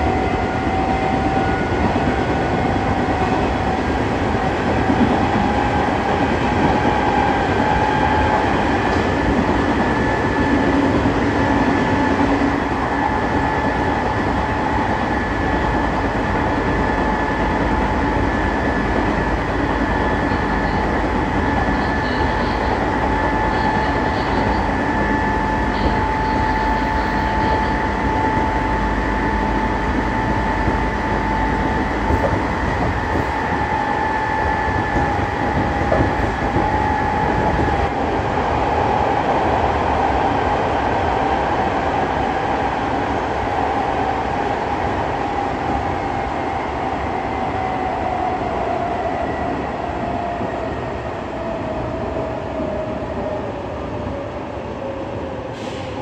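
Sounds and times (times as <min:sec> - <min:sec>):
electric train whine: 0:00.0 - 0:56.0
wheels rumbling on rail: 0:00.0 - 0:56.0.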